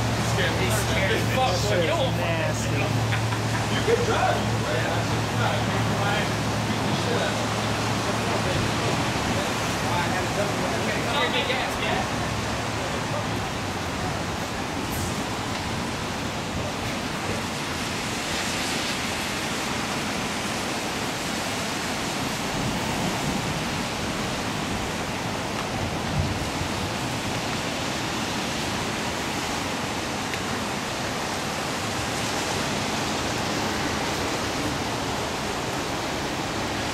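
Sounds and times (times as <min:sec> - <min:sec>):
rain falling steadily: 0:00.0 - 0:36.9.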